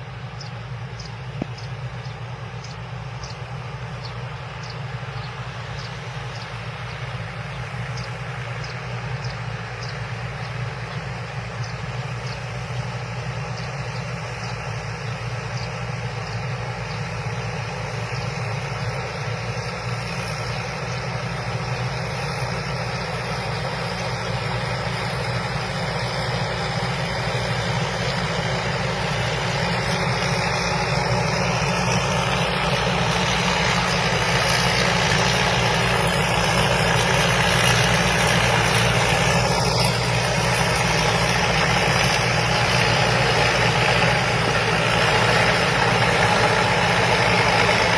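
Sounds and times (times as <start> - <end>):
combine harvester engine running: 0.0 - 47.9.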